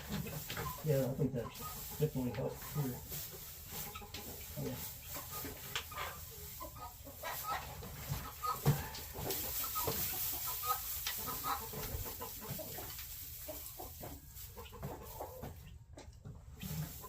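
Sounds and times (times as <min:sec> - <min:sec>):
chickens clucking: 0:00.0 - 0:17.0
rustling noise: 0:00.0 - 0:17.0.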